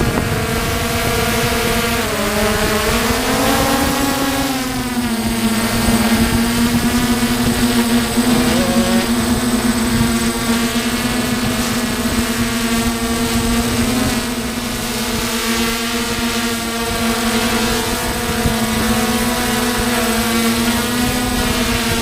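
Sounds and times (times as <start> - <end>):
drone motors droning whine: 0.0 - 22.0.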